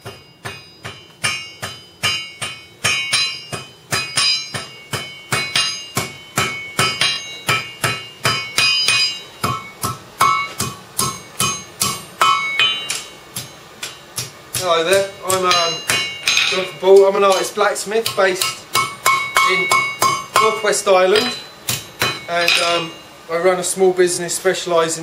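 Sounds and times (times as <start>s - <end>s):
hammer striking metal on anvil: 0.0s - 23.3s.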